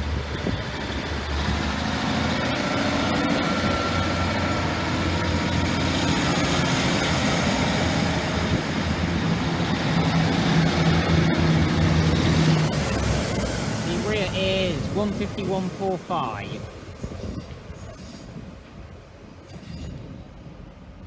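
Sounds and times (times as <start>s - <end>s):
diesel train engines running: 0.0s - 21.0s.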